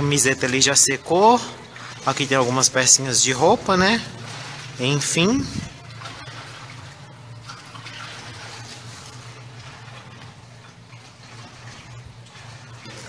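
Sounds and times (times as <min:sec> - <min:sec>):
constant low hum: 0:00.0 - 0:13.0
water rushing: 0:00.0 - 0:13.0.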